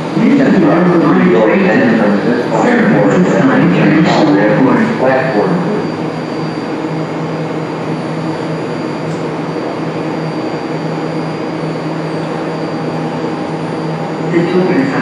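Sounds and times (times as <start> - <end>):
faint high whine: 0.0 - 15.0
train equipment humming: 0.0 - 15.0.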